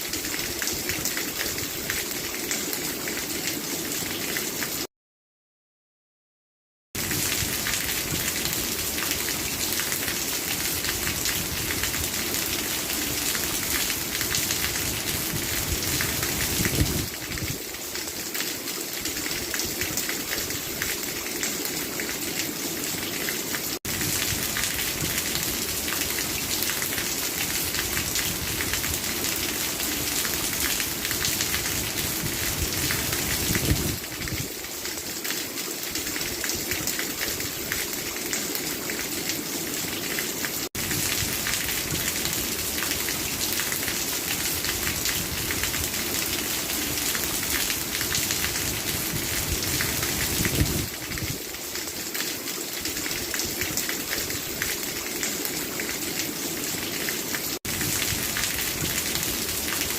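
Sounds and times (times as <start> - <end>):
rain falling on a surface: 0.0 - 4.9, 7.0 - 59.9.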